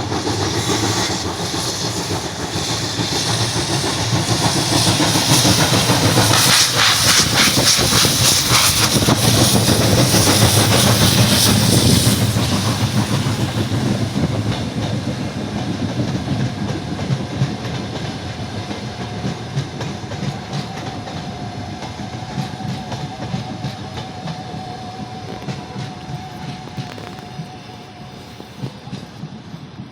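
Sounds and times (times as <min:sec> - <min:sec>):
steam locomotive hissing: 0:00.0 - 0:29.9
train wheels clicking over rail joints: 0:00.0 - 0:29.9.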